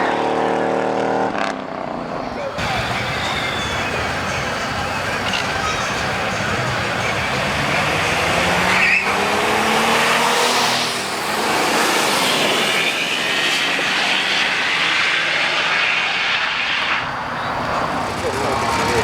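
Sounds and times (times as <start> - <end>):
diesel truck engine at full throttle: 2.0 - 19.0.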